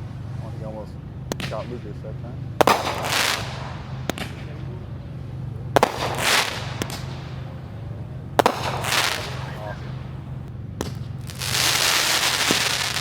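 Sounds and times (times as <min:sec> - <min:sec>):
low hum: 0:00.0 - 0:11.6
fireworks crackling: 0:00.0 - 0:13.0
fireworks bangs: 0:01.2 - 0:13.0.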